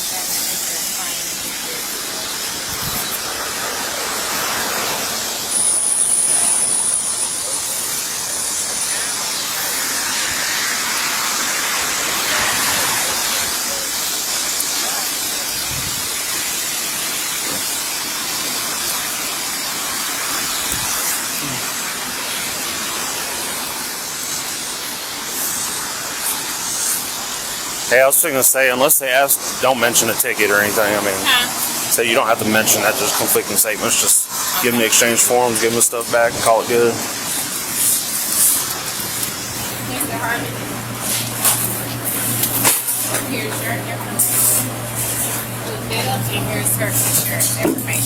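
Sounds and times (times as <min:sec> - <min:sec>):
steady broad hiss: 0:00.0 - 0:48.0
thin high-pitched whine: 0:00.0 - 0:48.0.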